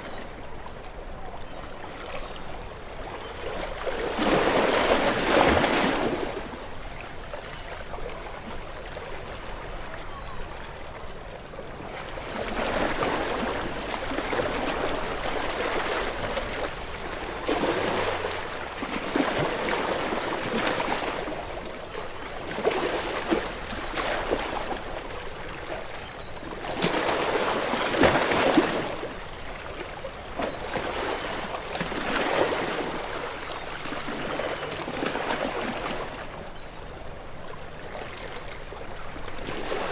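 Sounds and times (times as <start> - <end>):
ocean waves breaking on rocks: 2.0 - 10.1, 11.7 - 39.9.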